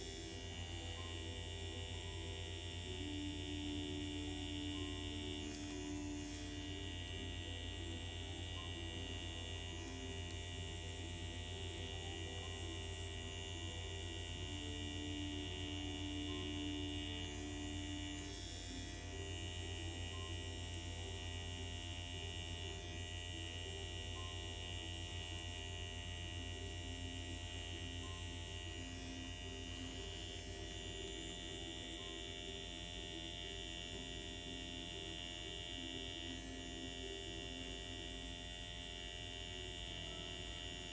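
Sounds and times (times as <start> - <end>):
soft background music: 0.0 - 40.9
steady electric hum: 0.0 - 40.9.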